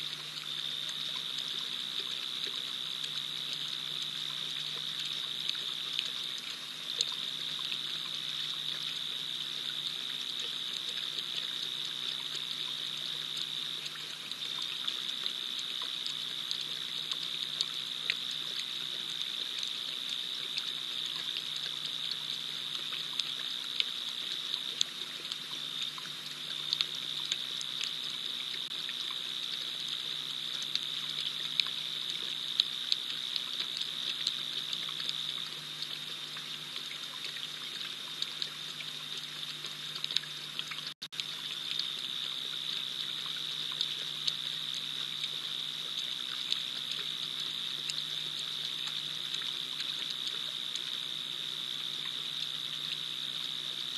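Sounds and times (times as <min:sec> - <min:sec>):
night insects droning: 0:00.0 - 0:53.9.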